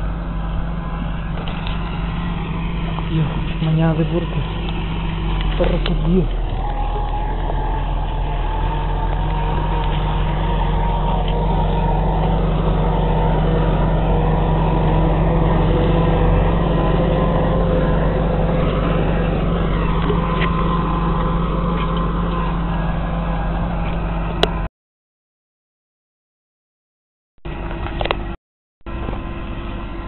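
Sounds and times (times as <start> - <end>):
faint steady whine: 0.0 - 24.4
tractor engine droning: 0.0 - 24.7, 27.5 - 30.0.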